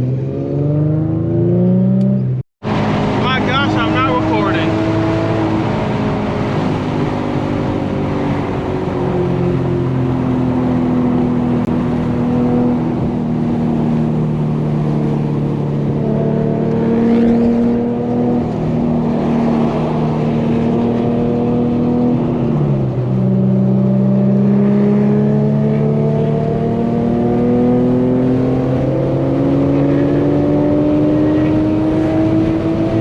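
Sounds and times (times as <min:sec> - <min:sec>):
car engine and exhaust while driving: 0:00.0 - 0:33.0.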